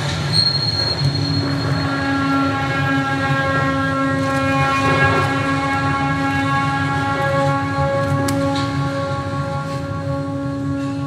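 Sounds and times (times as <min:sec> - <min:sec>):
low rumbling drone: 0:00.0 - 0:11.0
steady horn-like tone: 0:00.8 - 0:11.0.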